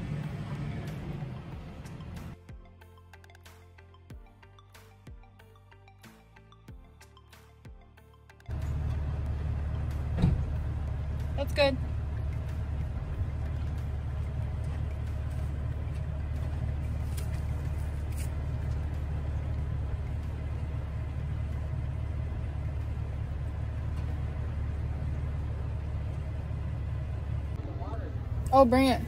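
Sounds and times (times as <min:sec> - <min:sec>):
vehicle engine idling: 0:00.0 - 0:03.0, 0:08.5 - 0:29.0.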